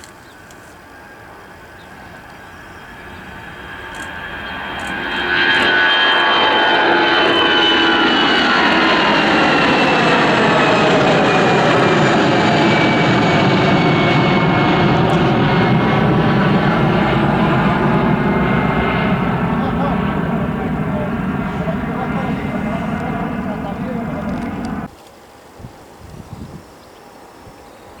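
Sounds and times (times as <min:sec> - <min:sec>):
airliner engines passing: 0:00.0 - 0:24.9.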